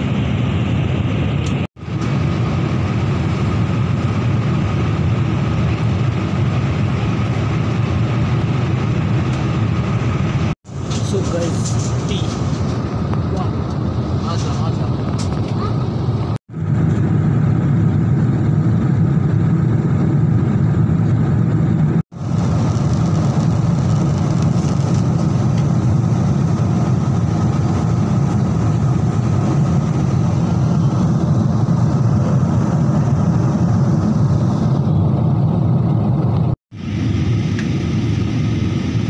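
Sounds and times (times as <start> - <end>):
airliner cabin engine rush: 0.0 - 39.0.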